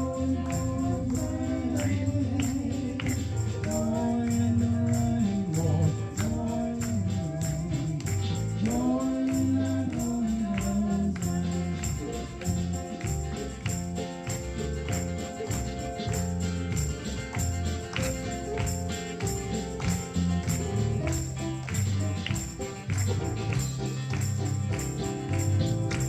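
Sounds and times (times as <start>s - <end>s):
jingling tambourine: 0.0s - 26.0s
upbeat gospel band music: 0.0s - 26.0s.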